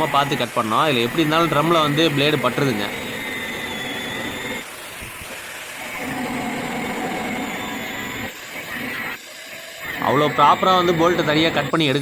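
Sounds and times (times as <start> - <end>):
angle grinder cutting metal: 0.0 - 12.0.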